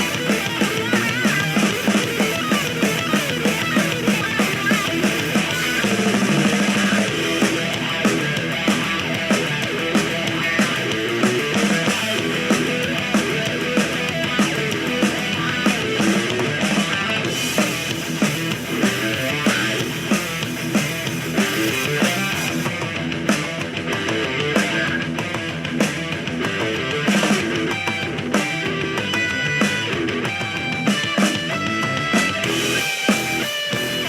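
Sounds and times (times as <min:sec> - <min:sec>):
rock music with drums and guitar: 0:00.0 - 0:34.0.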